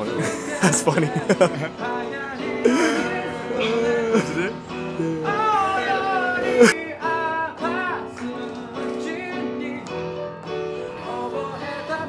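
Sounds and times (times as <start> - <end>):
keyboard chords: 0.0 - 12.0
person singing: 0.0 - 12.0.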